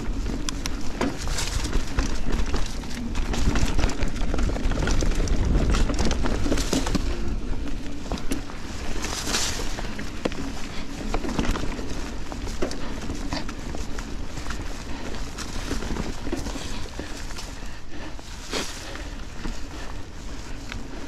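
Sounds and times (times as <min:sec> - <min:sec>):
bike rattling over bumps: 0:00.0 - 0:21.0
tyres rumbling over dirt trail: 0:00.0 - 0:21.0
wind buffeting microphone: 0:00.0 - 0:21.0.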